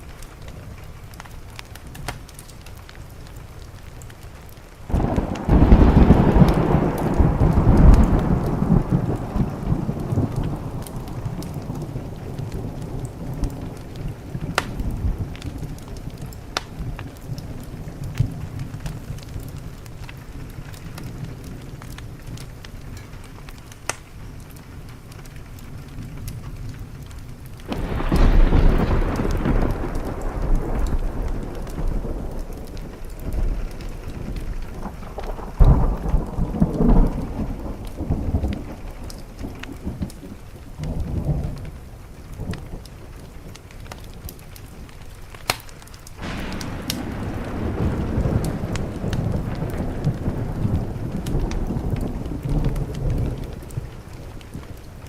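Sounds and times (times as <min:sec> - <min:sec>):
steady rain: 0:00.0 - 0:55.0
wood fire crackling: 0:00.0 - 0:55.0
thunder rumbling: 0:04.8 - 0:25.1, 0:25.8 - 0:55.0.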